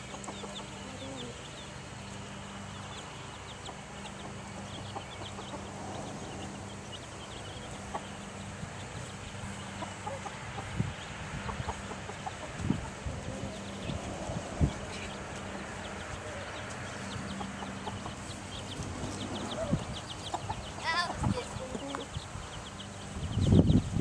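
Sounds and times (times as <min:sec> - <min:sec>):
chickens clucking: 0:00.0 - 0:24.0
high peeping chirps: 0:00.0 - 0:24.0.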